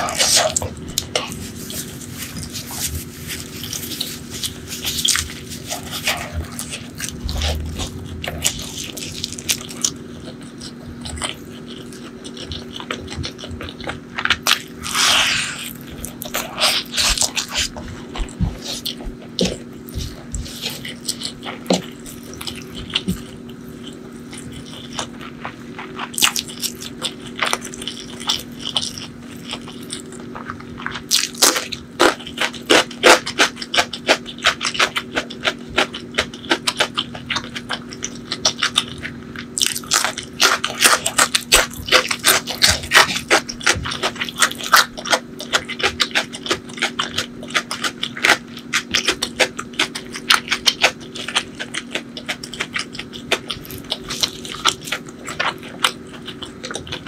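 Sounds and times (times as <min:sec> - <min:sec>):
chewing with crunching: 0:00.0 - 0:57.0.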